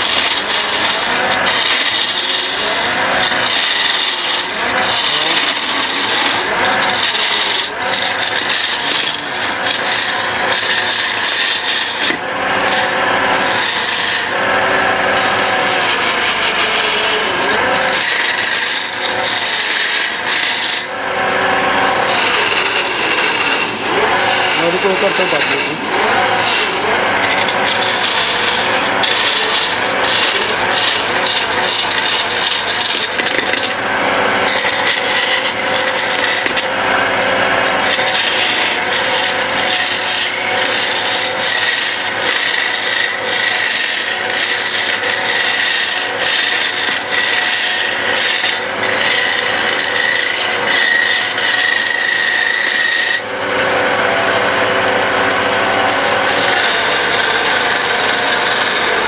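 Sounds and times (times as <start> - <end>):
tool scraping spinning wood: 0.0 - 59.0
wood lathe running: 0.0 - 59.0.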